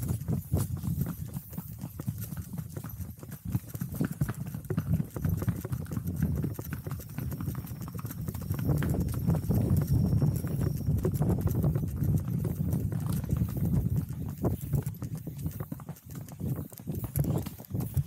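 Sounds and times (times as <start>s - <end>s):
horse hooves clip-clopping on dirt: 0.0s - 18.0s.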